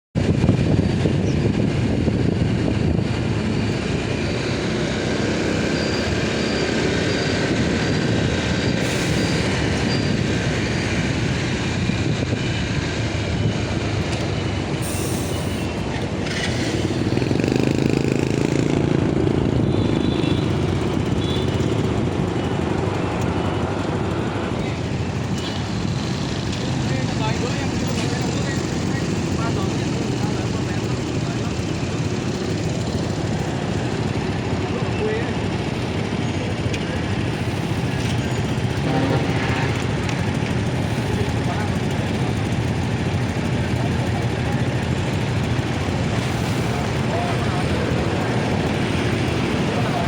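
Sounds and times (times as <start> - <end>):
motorcycle engine running: 0.2 - 50.0
road noise: 0.2 - 50.0.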